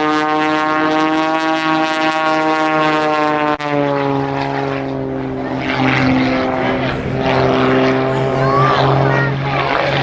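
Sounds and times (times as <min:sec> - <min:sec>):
propeller aircraft engine droning: 0:00.0 - 0:10.0.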